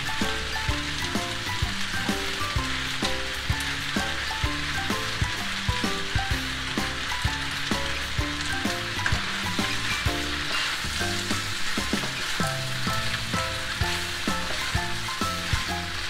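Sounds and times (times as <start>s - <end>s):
background music: 0.0s - 16.0s
food sizzling in a frying pan: 0.0s - 16.0s.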